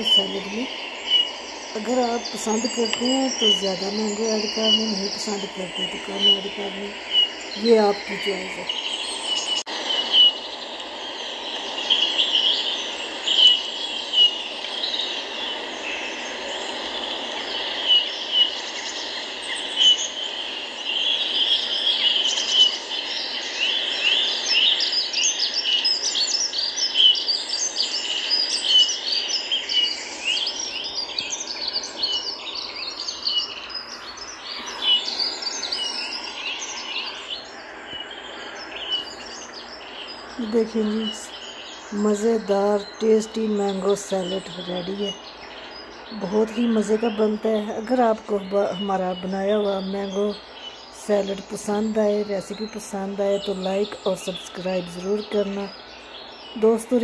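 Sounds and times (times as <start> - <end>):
birds chirping: 0.0 - 57.0
steady hiss: 0.0 - 57.0.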